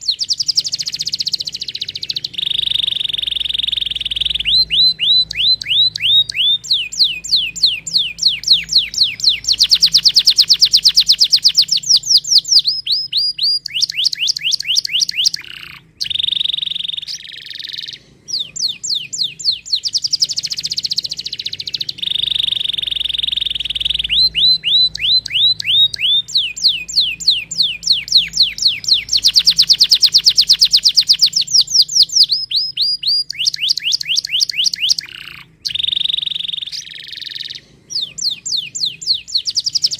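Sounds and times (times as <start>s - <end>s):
canary held whistles: 0.0s - 39.9s
canary singing trills: 0.0s - 39.9s.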